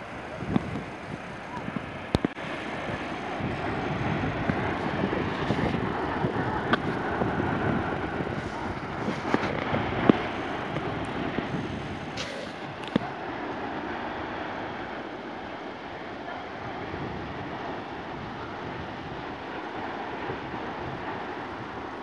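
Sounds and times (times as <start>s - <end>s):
sea surf rushing: 0.0s - 22.0s
wind buffeting microphone: 0.0s - 22.0s.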